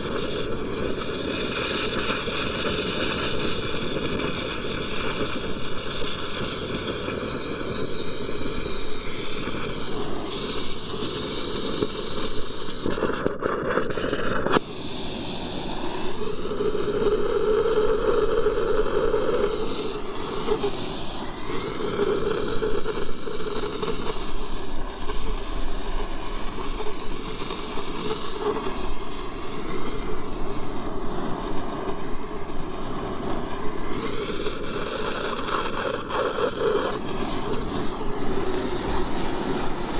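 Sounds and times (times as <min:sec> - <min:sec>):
torch flame hissing: 0:00.0 - 0:39.9.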